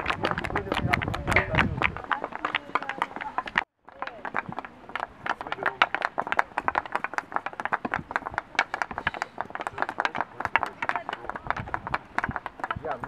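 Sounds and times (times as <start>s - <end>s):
hockey sticks clacking balls: 0.0s - 13.0s.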